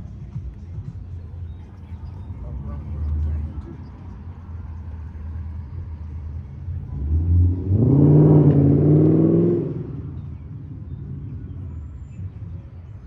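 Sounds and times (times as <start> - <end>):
car engine accelerating: 2.0 - 13.0.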